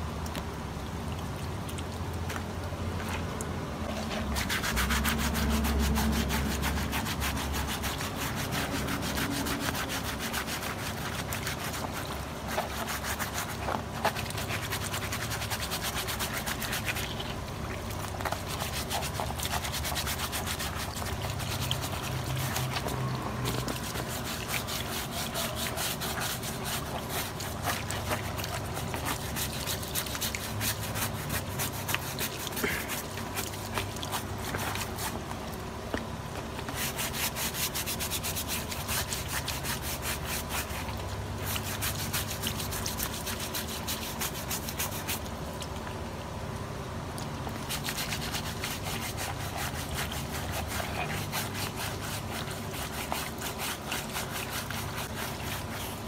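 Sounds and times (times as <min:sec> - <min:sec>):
hose water splashing on plastic: 0:00.0 - 0:56.0
sponge scrubbing mesh: 0:03.8 - 0:35.3, 0:36.5 - 0:45.4, 0:47.5 - 0:56.0.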